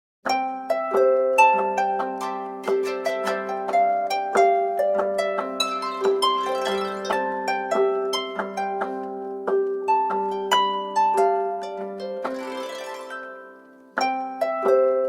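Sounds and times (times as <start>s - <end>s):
phone ringtone melody of plucked notes: 0.6s - 8.6s, 10.7s - 15.0s.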